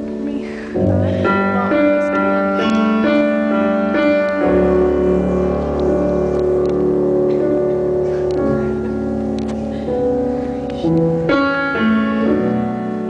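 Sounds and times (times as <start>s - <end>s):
piano chords and melody: 0.0s - 13.0s.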